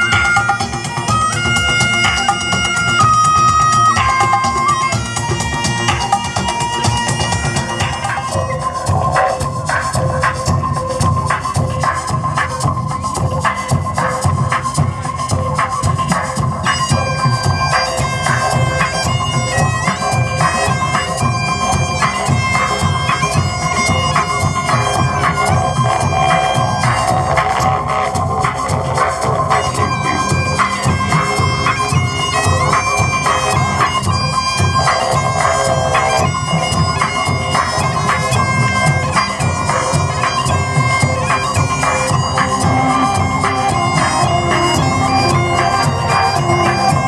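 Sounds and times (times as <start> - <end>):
bagpipes playing melody: 0.0 - 47.0
band accompaniment: 0.0 - 47.0
low didgeridoo: 0.0 - 47.0
steady drumbeat: 0.0 - 47.0.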